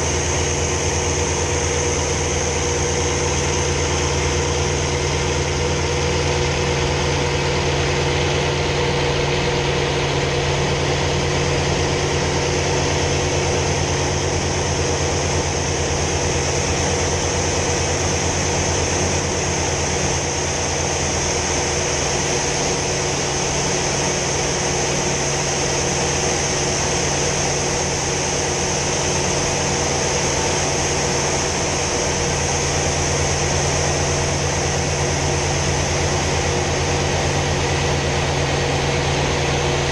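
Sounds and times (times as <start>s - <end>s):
piston aircraft engine droning: 0.0s - 39.9s.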